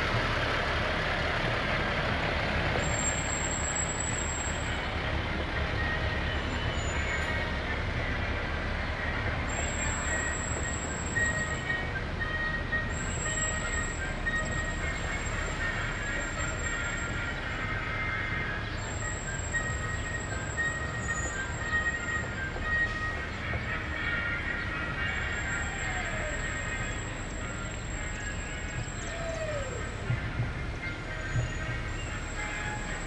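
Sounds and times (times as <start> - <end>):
fire truck engine rumble: 0.0 - 33.0.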